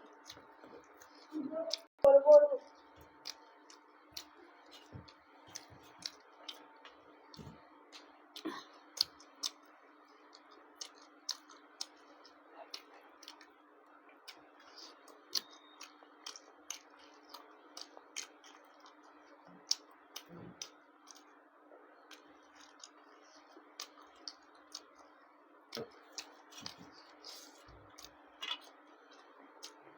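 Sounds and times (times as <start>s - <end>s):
person chewing: 0.0s - 1.8s, 3.0s - 13.5s, 14.2s - 21.3s, 22.1s - 29.9s
faint hum: 0.0s - 29.9s.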